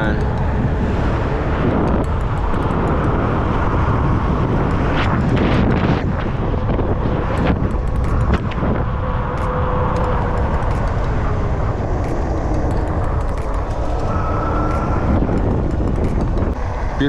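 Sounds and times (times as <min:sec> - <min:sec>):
wind rushing over microphone: 0:00.0 - 0:17.0
faint whine sliding down: 0:00.2 - 0:17.0.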